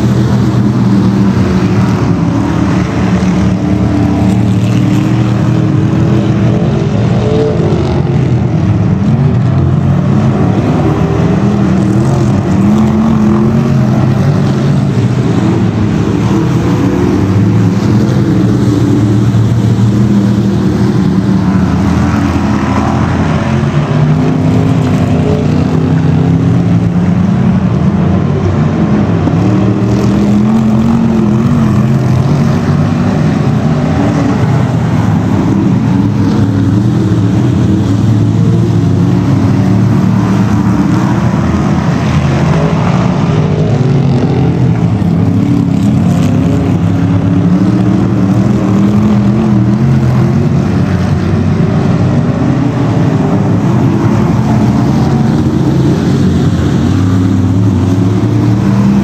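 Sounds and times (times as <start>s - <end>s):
stock car engines racing: 0.0s - 59.0s.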